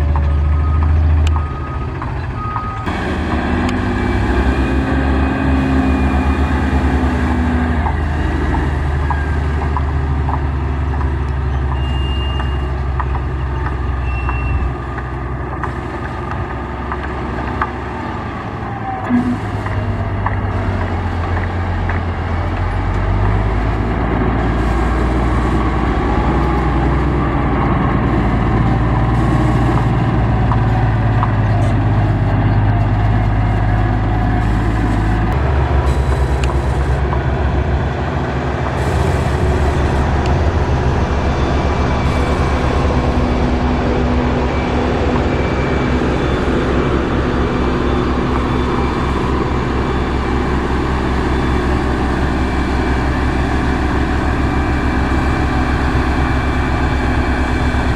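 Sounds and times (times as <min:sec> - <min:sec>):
diesel machinery engine drone: 0:00.0 - 0:57.9.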